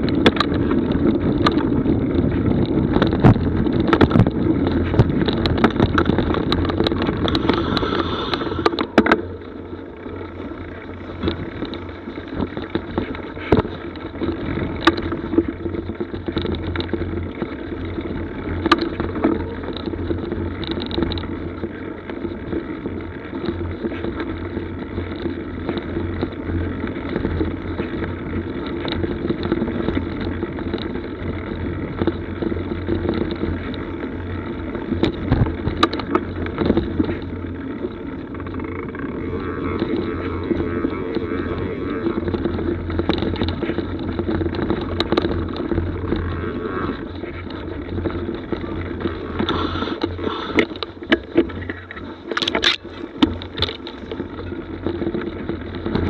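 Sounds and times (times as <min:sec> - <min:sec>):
bike knocks and rattles: 0:00.0 - 0:56.0
bike tyres rumbling on dirt: 0:00.0 - 0:56.0.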